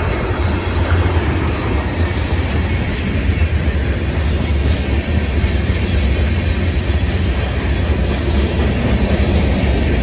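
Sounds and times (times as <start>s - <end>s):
freight train wheels rumbling on rail: 0.0s - 10.0s.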